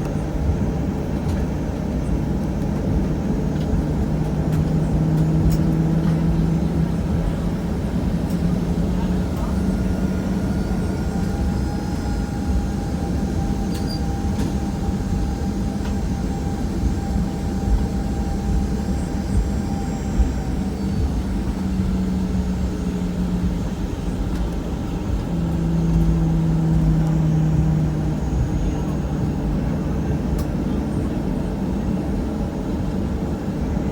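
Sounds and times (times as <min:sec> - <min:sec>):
jet engine hum and rush: 0:00.0 - 0:33.9.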